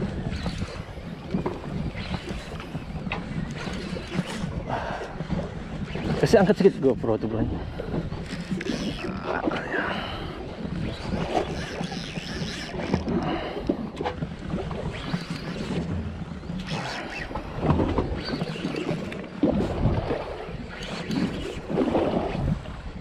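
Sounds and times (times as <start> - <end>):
water washing against boat: 0.0 - 23.0
wind buffeting microphone: 0.0 - 23.0.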